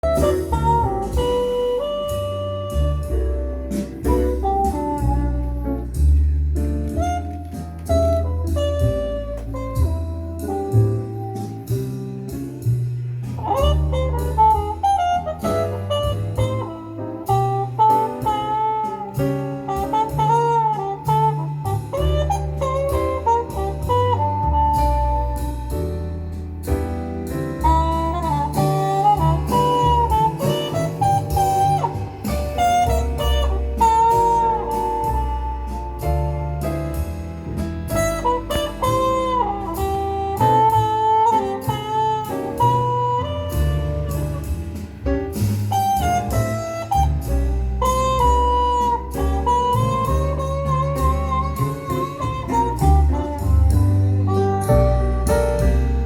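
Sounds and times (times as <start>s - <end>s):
deep bass line: 0.0s - 56.0s
lead melody of held notes: 0.0s - 56.0s.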